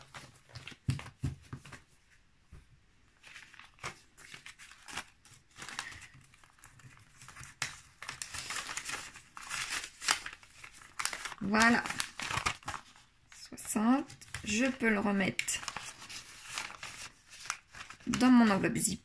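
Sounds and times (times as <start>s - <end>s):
paper and plastic rustling: 0.0s - 2.0s, 3.2s - 18.8s.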